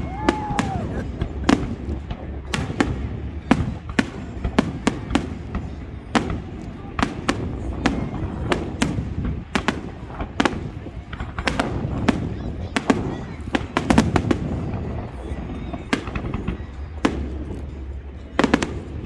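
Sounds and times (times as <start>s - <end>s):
fireworks bursting: 0.0s - 19.0s
steady low rumble: 0.0s - 19.0s.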